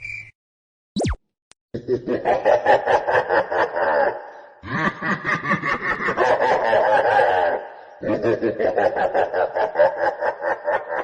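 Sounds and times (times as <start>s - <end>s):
rapid pulsing laughter: 1.8s - 11.0s.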